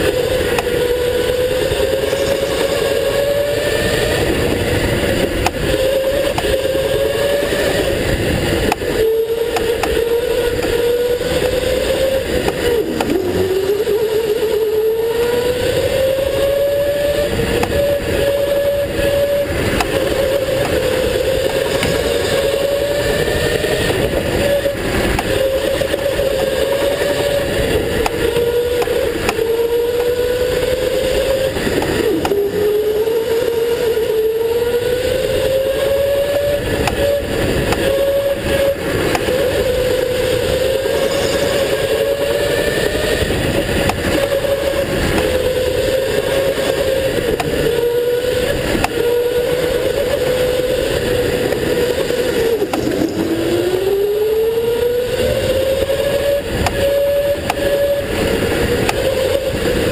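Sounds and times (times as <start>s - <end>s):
go-kart motor whining: 0.0s - 59.9s
kart rumble and rattle: 0.0s - 59.9s.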